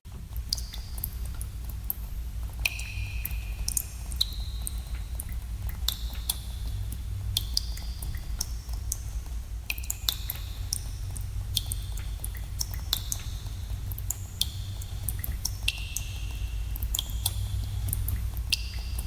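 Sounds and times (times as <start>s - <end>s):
steady low rumble: 0.1s - 19.0s
water drops plinking in a cave: 0.3s - 19.0s.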